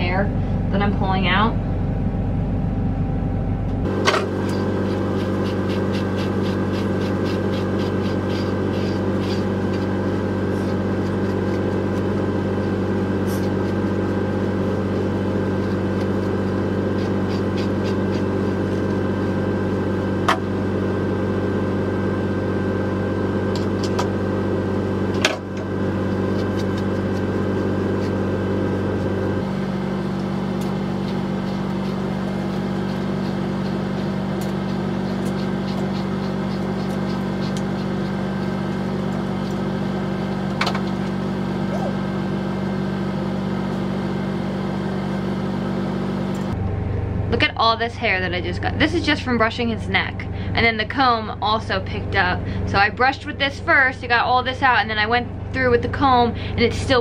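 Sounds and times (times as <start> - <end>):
machine humming: 0.0 - 57.0.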